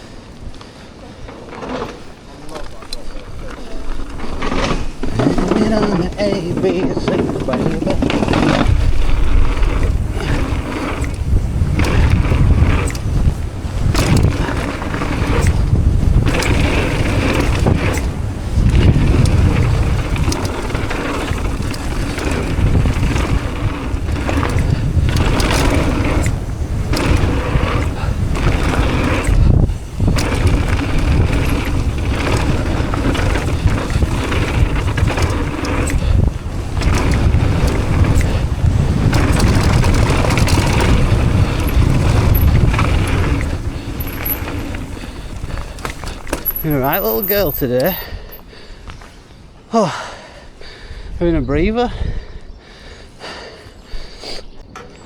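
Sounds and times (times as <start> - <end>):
bike knocking and rattling: 0.0 - 51.0, 52.8 - 55.0
bike tyre noise: 0.0 - 55.0
wind buffeting microphone: 0.0 - 55.0.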